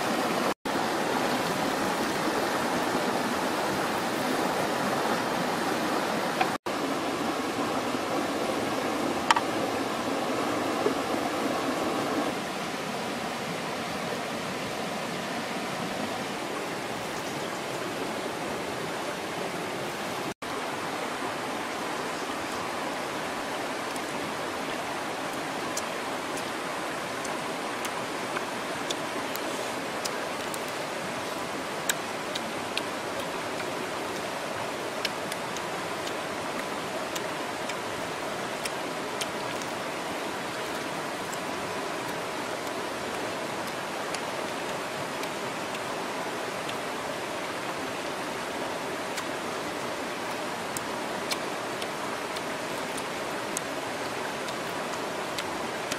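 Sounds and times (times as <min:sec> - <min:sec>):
stream water rushing over rocks: 0:00.0 - 0:55.9.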